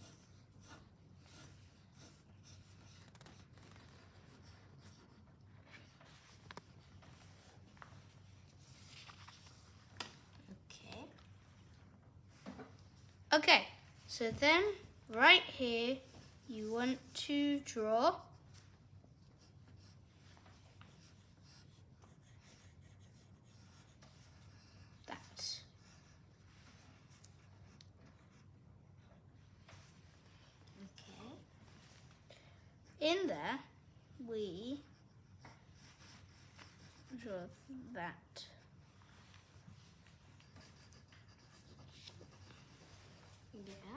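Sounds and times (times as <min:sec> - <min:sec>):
pencil scratching on paper: 0:00.0 - 0:09.8, 0:13.7 - 0:30.2, 0:32.8 - 0:43.9
low steady hum: 0:00.0 - 0:43.9.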